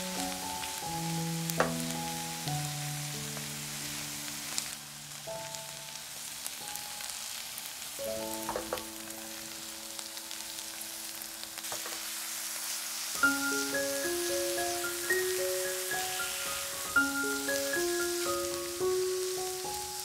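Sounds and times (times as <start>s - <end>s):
soft background music: 0.0s - 12.1s, 13.2s - 20.0s
food sizzling in oil: 0.0s - 20.0s.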